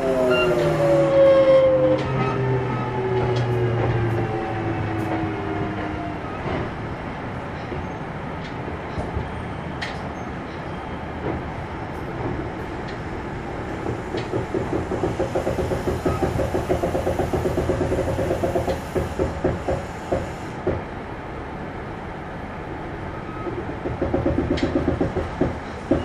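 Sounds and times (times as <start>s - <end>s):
train rolling rumble: 0.0s - 26.0s.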